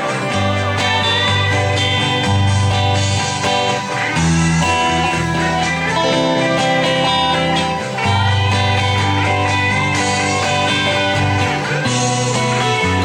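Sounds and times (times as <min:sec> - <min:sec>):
bass line: 0:00.0 - 0:13.0
guitar-led instrumental music: 0:00.0 - 0:13.0.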